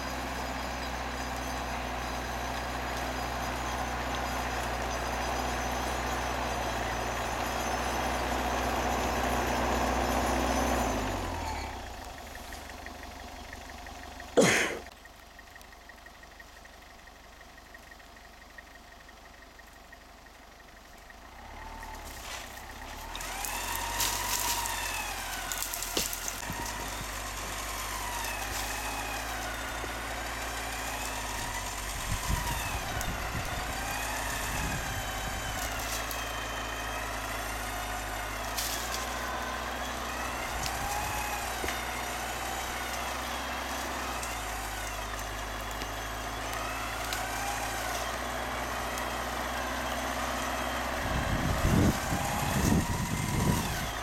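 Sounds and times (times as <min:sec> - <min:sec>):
engine running low: 0:00.0 - 0:54.0.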